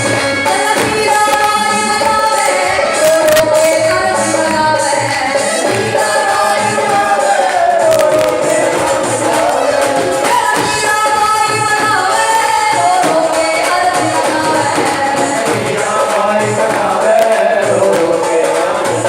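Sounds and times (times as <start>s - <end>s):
backing music with steady beat: 0.0s - 19.0s
high voice singing: 0.0s - 19.0s.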